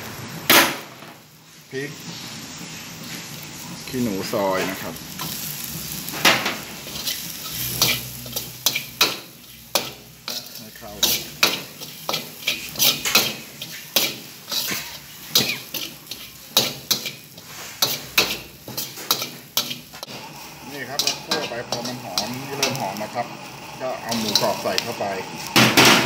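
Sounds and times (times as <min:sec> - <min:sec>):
light sizzle: 0:00.0 - 0:26.0
metal spatula scraping wok: 0:01.4 - 0:26.0.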